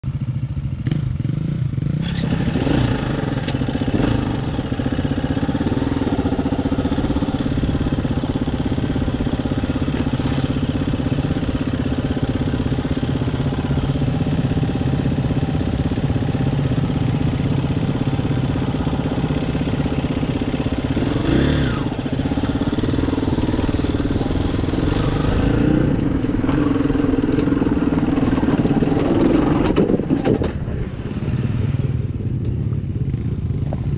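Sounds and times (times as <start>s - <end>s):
dirt bike engine running: 0.0s - 33.9s.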